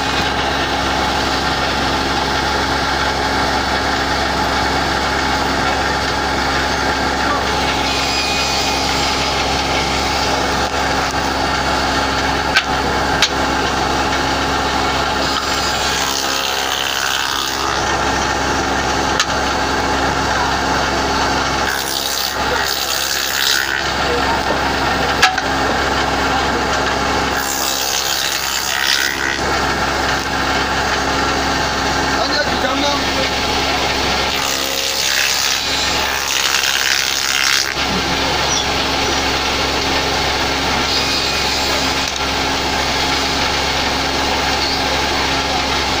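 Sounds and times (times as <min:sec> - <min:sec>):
spindle moulder motor running: 0:00.0 - 0:46.0
wood being machined: 0:00.0 - 0:46.0.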